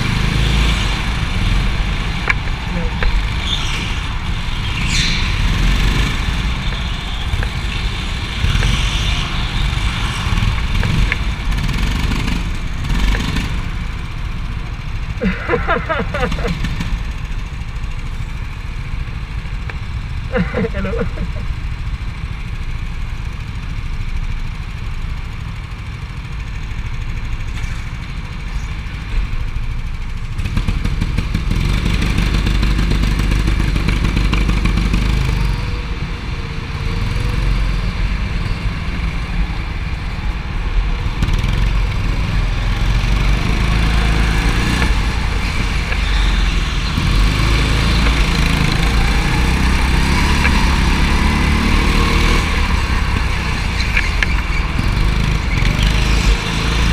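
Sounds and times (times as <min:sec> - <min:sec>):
go-kart engine: 0:00.0 - 0:56.9.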